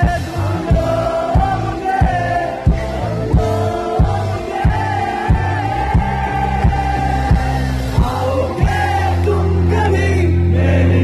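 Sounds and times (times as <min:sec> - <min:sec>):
live rock band playing: 0:00.0 - 0:11.0
sung vocal line: 0:00.0 - 0:11.0.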